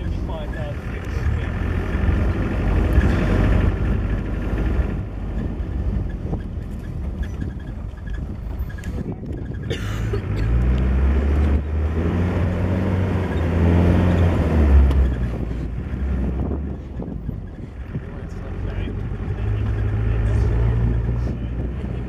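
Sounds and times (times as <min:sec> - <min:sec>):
tyre and wind rumble: 0:00.0 - 0:22.0
vehicle engine drone: 0:00.0 - 0:22.0.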